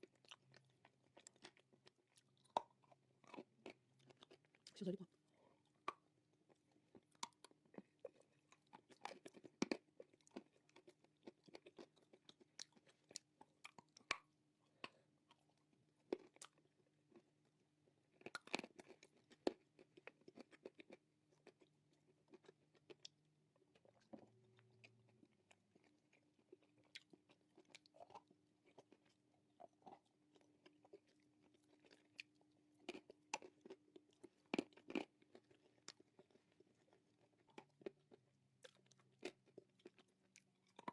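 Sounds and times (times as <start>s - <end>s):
crunching and chewing clay: 0.0s - 40.9s.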